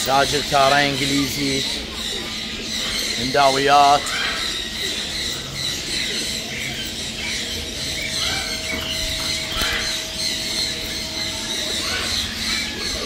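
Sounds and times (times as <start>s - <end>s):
caged birds chirping: 0.0s - 13.0s
steady hum: 0.0s - 13.0s.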